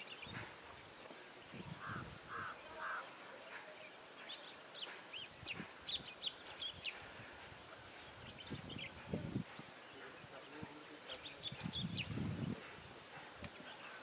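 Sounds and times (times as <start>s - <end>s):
faint high hiss: 0.0s - 14.0s.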